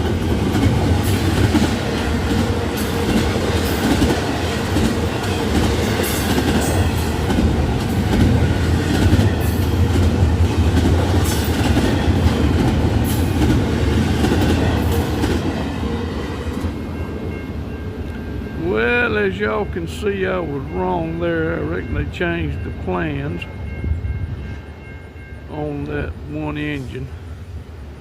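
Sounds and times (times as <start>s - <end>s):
freight train wheels rumbling on rail: 0.0s - 28.0s.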